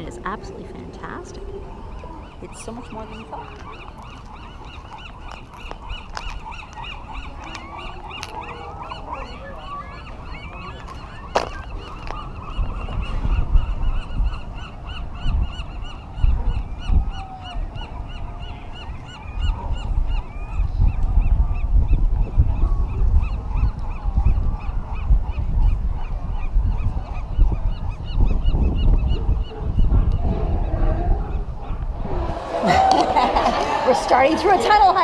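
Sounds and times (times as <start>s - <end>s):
sea lions barking: 0.0s - 20.6s, 23.3s - 35.0s
wind on microphone: 0.0s - 35.0s.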